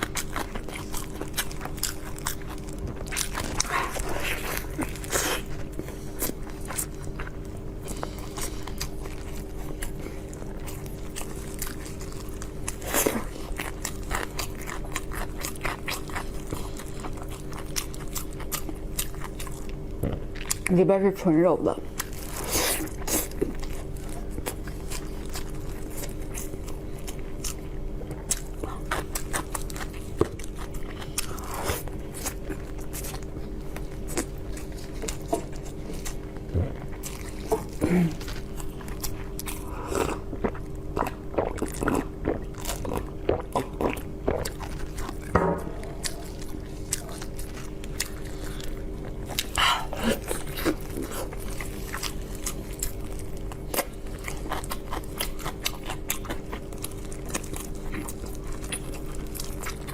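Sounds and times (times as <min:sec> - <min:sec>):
chewing and biting: 0:00.0 - 0:20.8, 0:21.9 - 0:59.9
steady low hum: 0:00.0 - 0:59.9.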